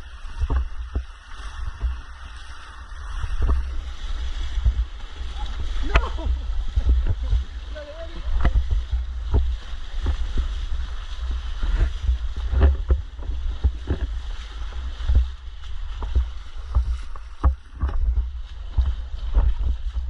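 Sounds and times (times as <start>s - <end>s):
low wind rumble on microphone: 0.0s - 20.0s
stream rushing: 0.0s - 20.0s
water splashing with footsteps: 0.0s - 20.0s.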